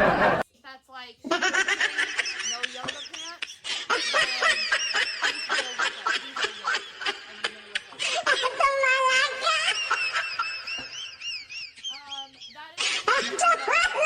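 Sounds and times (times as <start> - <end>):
people laughing: 0.0 - 0.4, 1.3 - 14.0.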